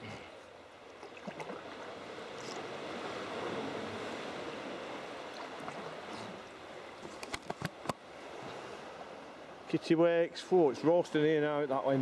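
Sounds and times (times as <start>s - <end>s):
water splashing around kayak: 0.0s - 9.7s.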